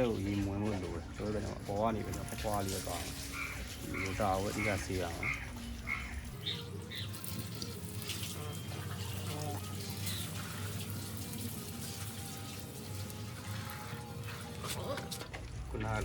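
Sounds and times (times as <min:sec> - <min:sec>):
water running from a tap: 0:00.0 - 0:14.6.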